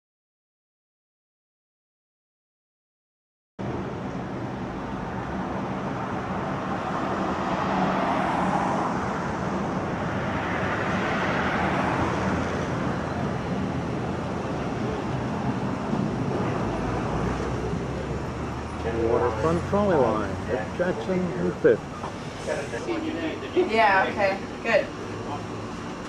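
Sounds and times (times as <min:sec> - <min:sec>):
road traffic rushing: 0:03.6 - 0:26.0
vehicles passing: 0:03.6 - 0:26.0.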